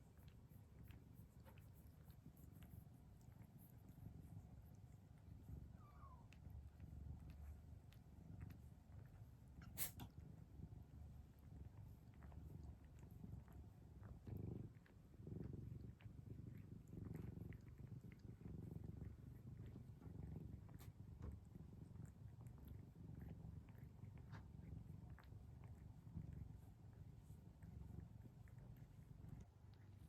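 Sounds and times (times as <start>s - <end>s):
kitten purring: 0.0s - 30.0s.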